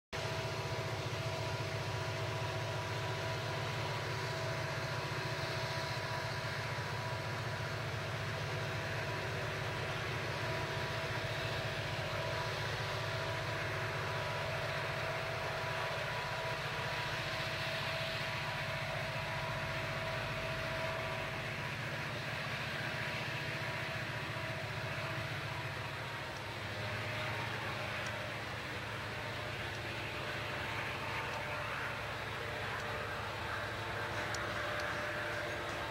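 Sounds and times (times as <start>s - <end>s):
high even whine: 0.2s - 35.9s
locomotive engine drone: 0.2s - 35.9s
train rumbling on rails: 0.2s - 35.9s.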